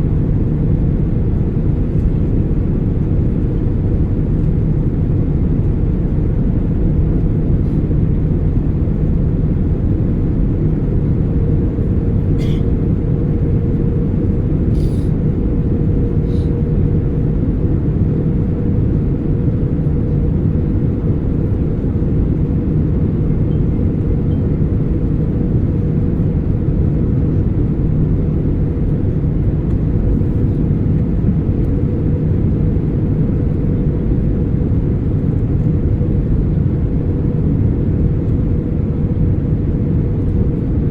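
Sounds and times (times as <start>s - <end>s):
airplane cabin engine roar: 0.0s - 40.9s
steady hum: 0.0s - 40.9s.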